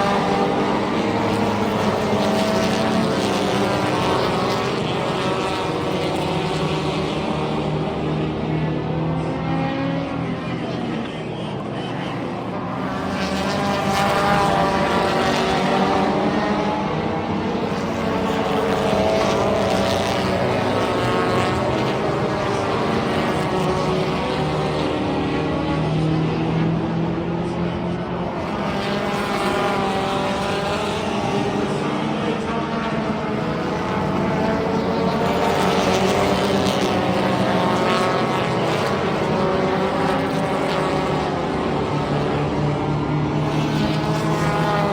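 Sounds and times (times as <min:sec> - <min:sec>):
race car engines running hard: 0:00.0 - 0:44.9.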